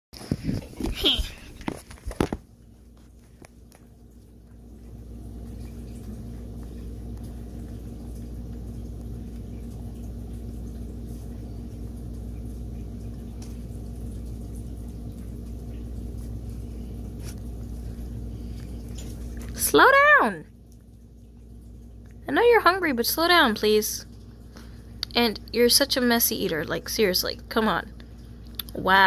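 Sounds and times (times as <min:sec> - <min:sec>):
low hum: 0:00.2 - 0:29.0.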